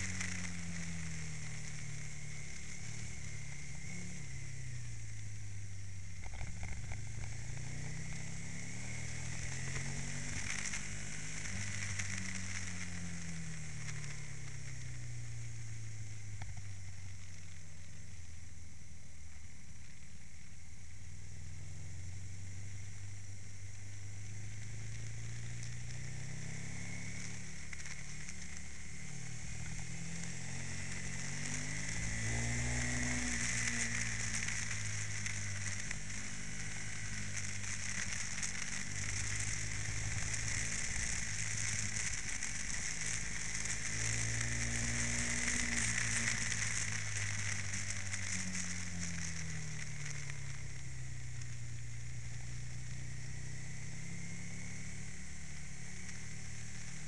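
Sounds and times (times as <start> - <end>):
wind hiss on microphone: 0.0 - 18.5, 21.4 - 57.0
motorcycle engine accelerating: 0.0 - 20.0, 20.8 - 57.0.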